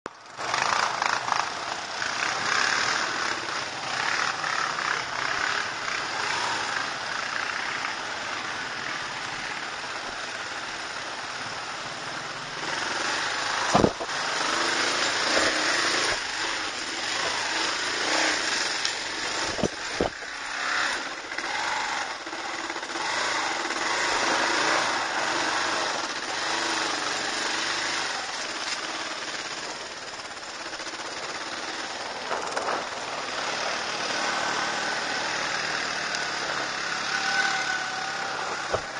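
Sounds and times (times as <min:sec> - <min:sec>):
motorcycle engine running: 0:00.1 - 0:38.9.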